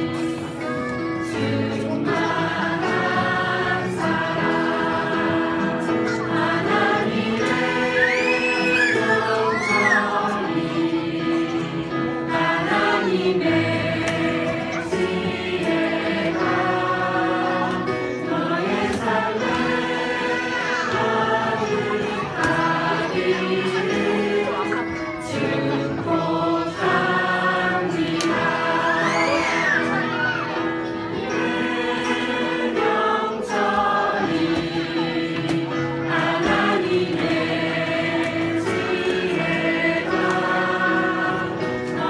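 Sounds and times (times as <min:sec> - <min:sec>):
mixed choir singing: 0:00.0 - 0:42.0.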